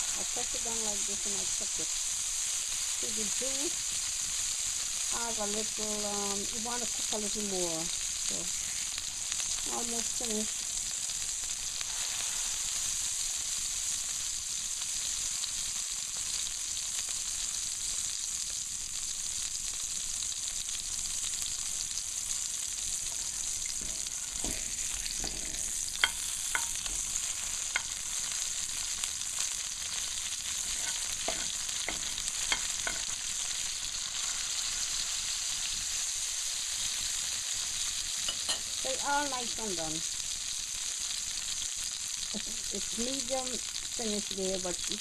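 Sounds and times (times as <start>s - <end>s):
burger patties sizzling in a pan: 0.0s - 45.0s.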